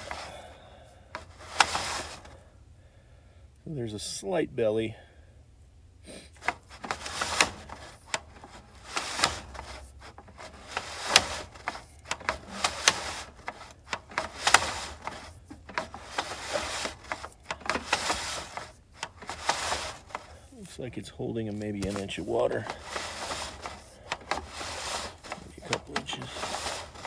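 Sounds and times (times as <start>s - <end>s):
cable scraping with sharp clicks: 0.0s - 2.4s, 6.3s - 20.8s, 21.5s - 27.0s.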